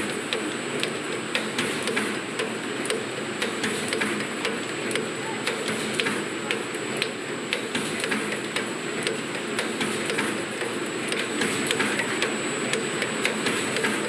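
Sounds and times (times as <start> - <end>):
factory machinery running: 0.0 - 14.0
sharp irregular clicks: 0.3 - 14.0.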